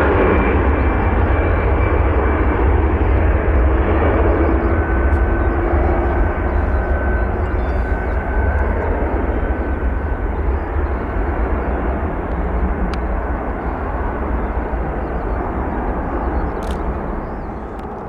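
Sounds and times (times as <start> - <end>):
faint engine whine: 0.0 - 18.0
jet engines rumbling: 0.0 - 18.0.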